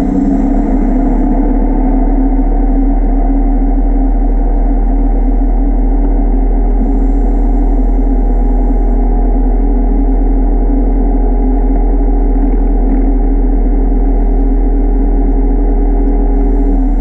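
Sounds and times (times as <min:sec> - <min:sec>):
underwater motor humming: 0:00.0 - 0:17.0.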